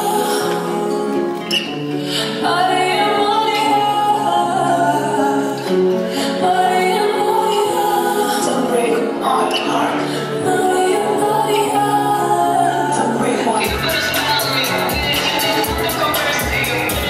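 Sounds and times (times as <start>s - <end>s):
song with sustained singing voice: 0.0s - 17.0s.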